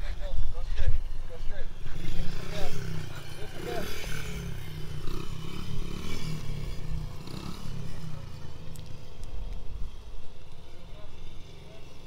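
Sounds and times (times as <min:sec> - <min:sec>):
small dirt bike engine running: 0:00.0 - 0:12.0.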